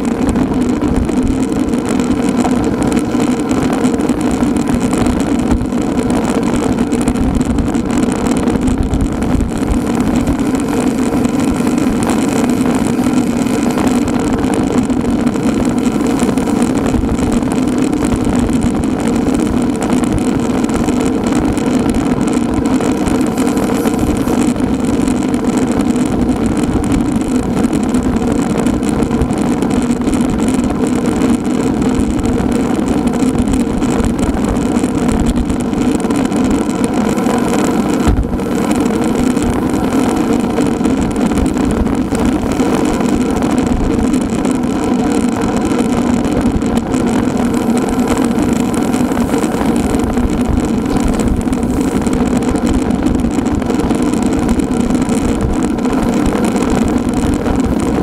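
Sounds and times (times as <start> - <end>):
road travel drone: 0.0 - 58.0.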